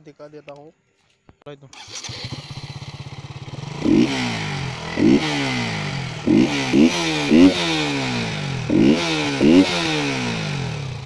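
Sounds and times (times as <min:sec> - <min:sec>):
motorcycle engine idling and revving: 0:01.8 - 0:11.0.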